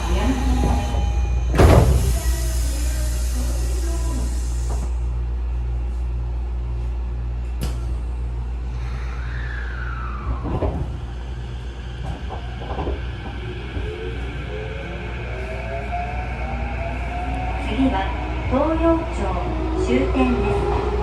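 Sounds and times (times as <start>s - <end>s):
electric train equipment humming: 0.0s - 21.0s.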